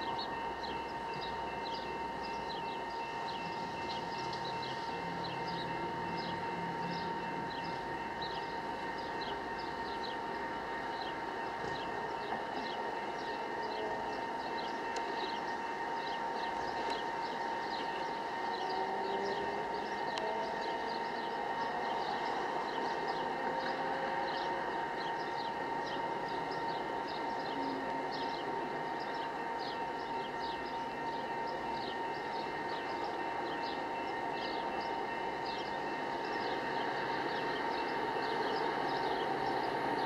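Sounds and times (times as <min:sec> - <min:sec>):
distant train rumbling: 0:00.0 - 0:40.0.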